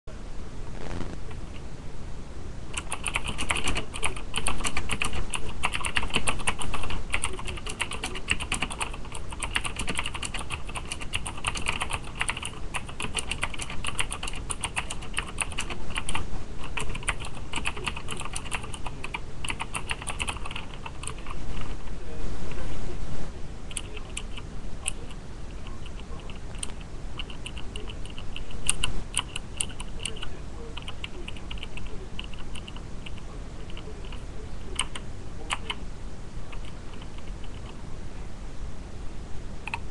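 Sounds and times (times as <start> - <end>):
mechanical keyboard typing: 2.7 - 21.7, 23.7 - 35.8, 36.5 - 37.8, 39.6 - 39.9.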